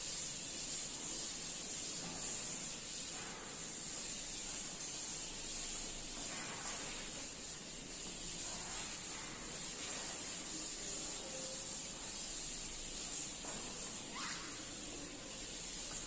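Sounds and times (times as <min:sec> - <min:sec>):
duster rubbing on blackboard: 0:00.0 - 0:16.0.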